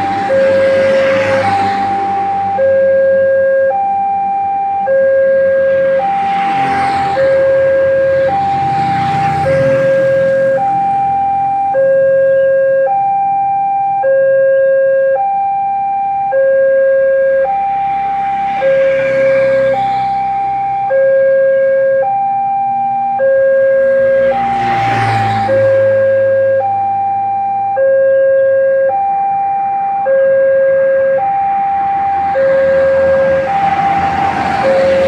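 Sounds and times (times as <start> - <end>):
two-tone level crossing alarm: 0.0 - 35.0.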